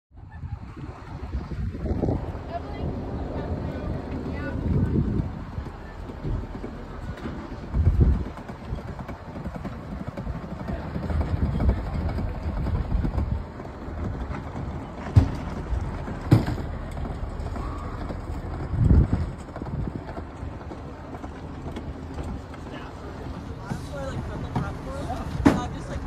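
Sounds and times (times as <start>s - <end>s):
low rumbling on microphone: 0.1s - 26.0s.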